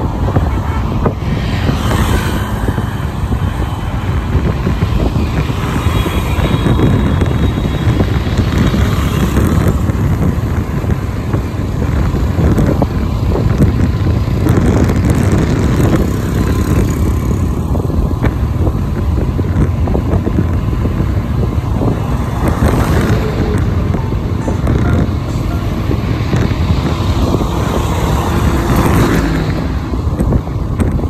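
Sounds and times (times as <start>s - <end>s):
road vehicle rumbling: 0.0s - 31.0s
wind buffeting microphone: 0.0s - 31.0s.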